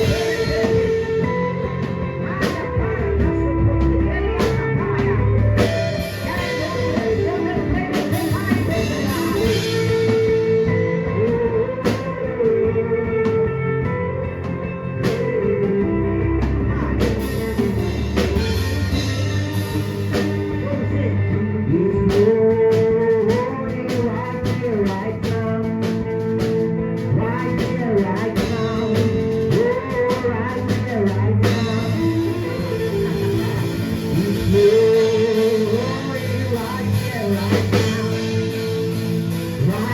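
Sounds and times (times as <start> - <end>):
drum kit: 0.0 - 39.9
gospel band playing: 0.0 - 39.9
guitar: 0.0 - 39.9.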